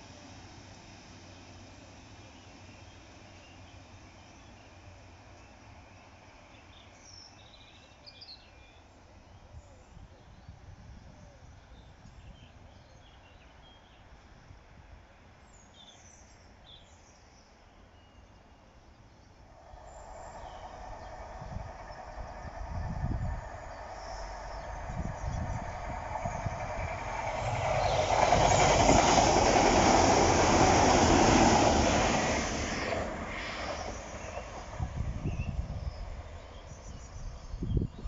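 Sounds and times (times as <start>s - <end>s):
approaching train rumble: 0.0s - 17.6s, 18.4s - 38.0s
faint outdoor ambience: 0.0s - 38.0s.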